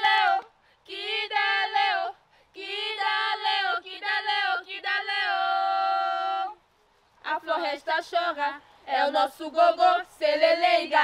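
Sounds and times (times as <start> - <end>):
young women singing chant-like song: 0.0 - 6.6, 7.2 - 11.0.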